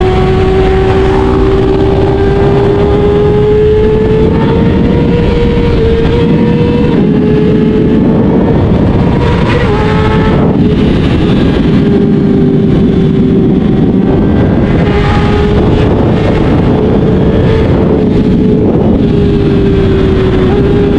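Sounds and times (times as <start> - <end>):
motorcycle engine at high revs: 0.0 - 20.9
wind noise: 0.0 - 20.9.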